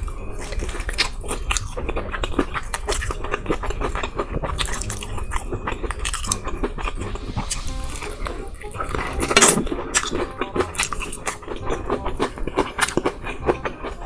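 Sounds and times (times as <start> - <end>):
crunchy chewing: 0.0 - 14.0.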